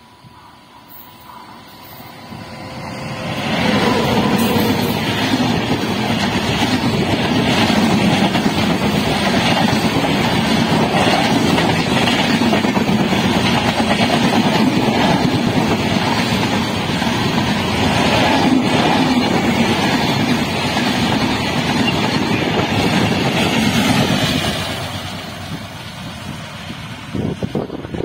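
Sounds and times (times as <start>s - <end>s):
train wheels rushing on rails: 0.0s - 28.0s.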